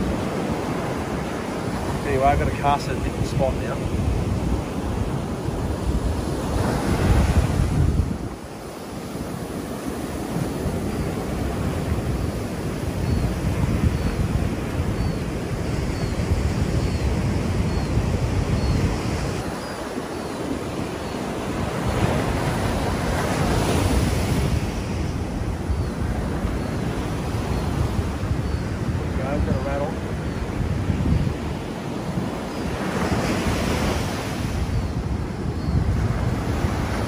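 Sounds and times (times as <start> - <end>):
ocean surf breaking: 0.0 - 37.0
wind buffeting microphone: 0.0 - 37.0.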